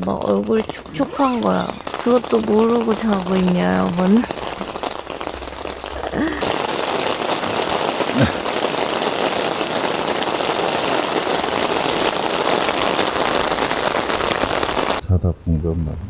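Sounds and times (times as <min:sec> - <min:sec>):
heavy rain on a tent: 0:00.0 - 0:15.0.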